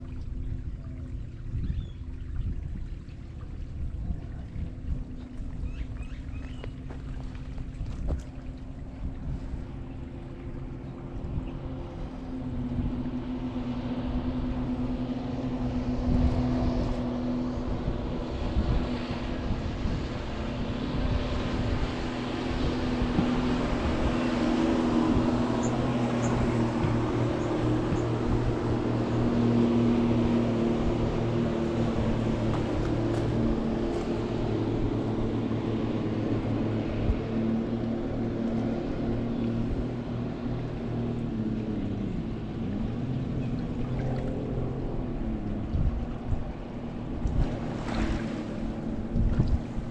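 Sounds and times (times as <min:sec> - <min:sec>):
motorboat engine: 0:00.0 - 0:49.9
river water: 0:00.0 - 0:49.9.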